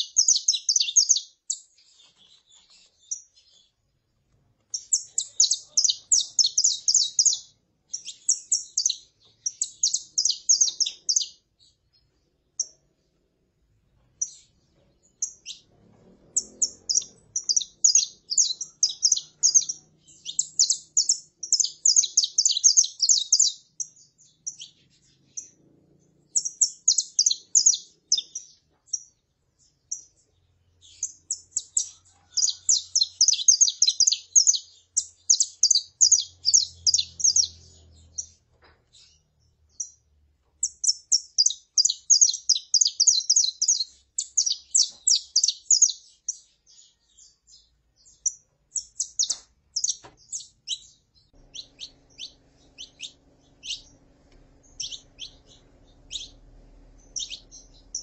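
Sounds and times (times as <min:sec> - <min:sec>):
finch calling: 0:00.0 - 0:03.7, 0:04.7 - 0:11.4, 0:14.2 - 0:25.6, 0:26.2 - 0:29.1, 0:30.8 - 0:40.0, 0:40.6 - 0:46.9, 0:48.1 - 0:58.0
finch singing rapid high chirps: 0:00.0 - 0:04.0, 0:04.6 - 0:13.0, 0:14.0 - 0:58.0.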